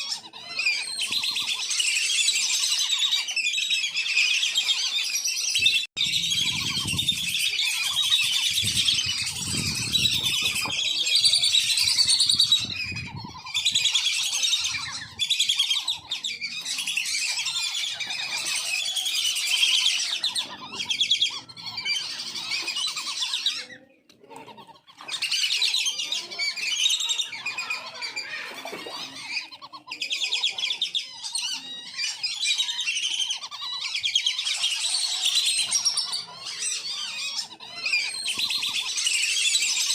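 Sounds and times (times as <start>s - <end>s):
ducks whistling calls: 0.0s - 23.8s, 24.4s - 39.9s.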